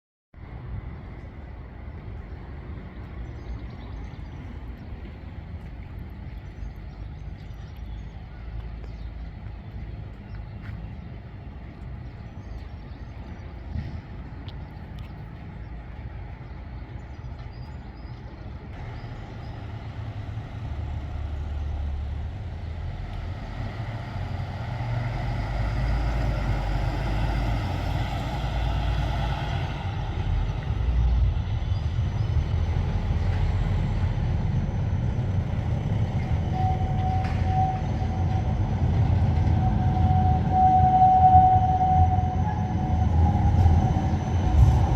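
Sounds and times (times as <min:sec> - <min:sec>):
trams and buses rumbling: 0:00.4 - 0:44.9.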